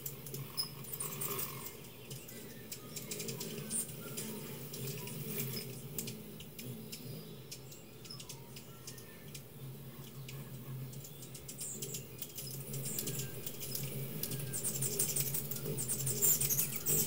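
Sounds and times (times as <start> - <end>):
hummingbirds chipping and twittering: 0.0 - 17.0
steady low hum: 0.0 - 17.0.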